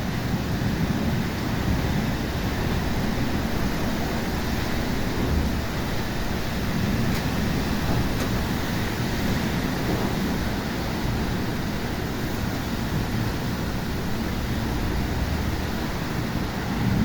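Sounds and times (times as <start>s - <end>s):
rain rushing: 0.0s - 17.0s
wind: 0.0s - 17.0s.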